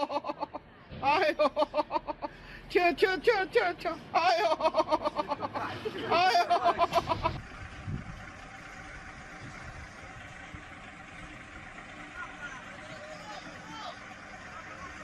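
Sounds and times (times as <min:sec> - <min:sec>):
vehicle running with faint hum: 0:00.0 - 0:15.0.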